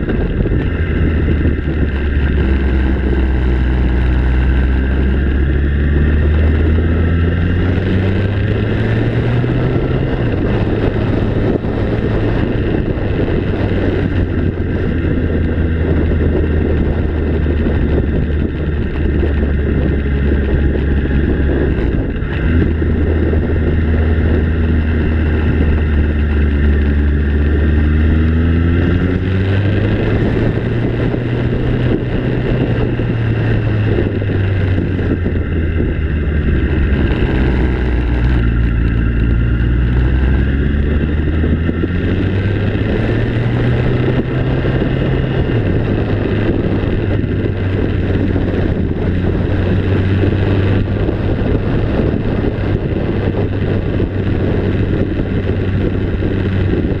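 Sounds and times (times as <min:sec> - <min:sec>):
vehicle engine running: 0:00.0 - 0:57.0
wind noise on microphone: 0:00.0 - 0:57.0.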